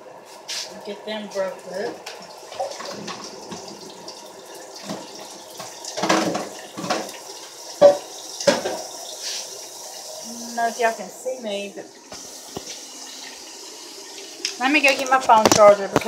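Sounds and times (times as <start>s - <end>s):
tap running water into sink: 1.7s - 11.0s, 11.9s - 16.0s.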